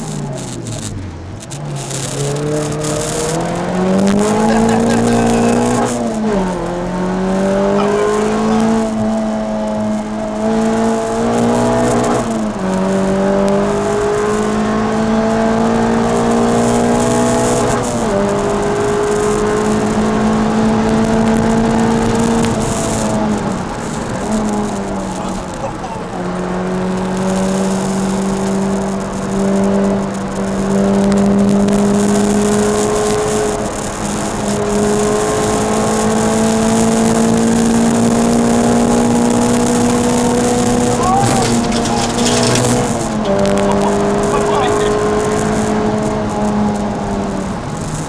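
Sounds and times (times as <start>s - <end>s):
car engine revving high: 0.0s - 48.0s.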